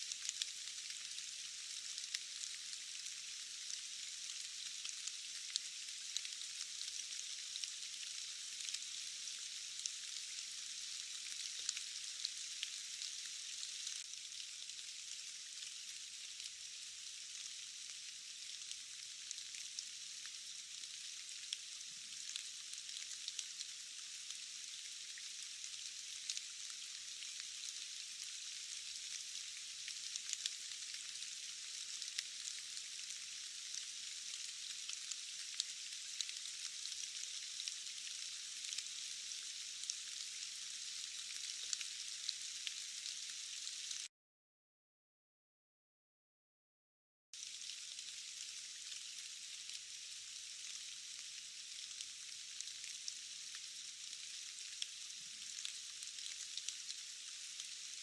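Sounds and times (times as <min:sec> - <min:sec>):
steady rain hiss: 0:00.0 - 0:44.1, 0:47.4 - 0:58.0.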